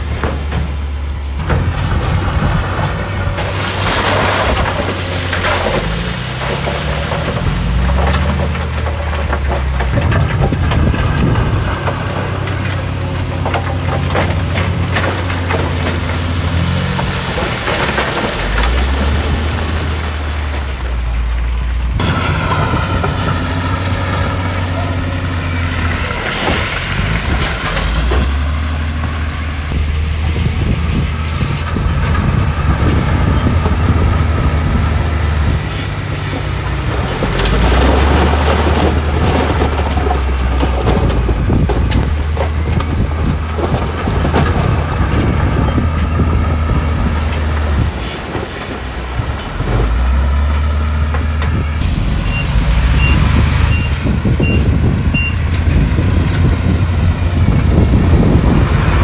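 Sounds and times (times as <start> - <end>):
diesel machinery engines revving: 0.0 - 59.0.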